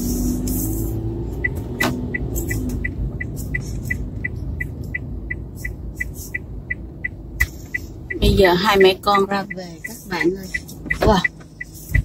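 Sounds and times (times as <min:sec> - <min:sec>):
car engine and road rumble: 0:00.0 - 0:12.0
turn signal ticking: 0:00.0 - 0:12.0.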